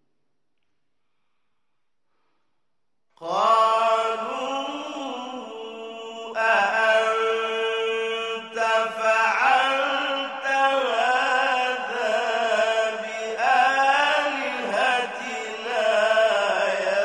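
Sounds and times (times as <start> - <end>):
man chanting melodically: 3.2 - 17.0.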